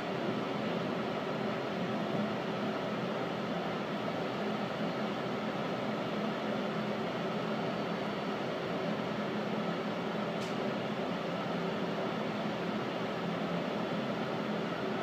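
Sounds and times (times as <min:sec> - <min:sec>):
subway ventilation hum and hiss: 0:00.0 - 0:15.0.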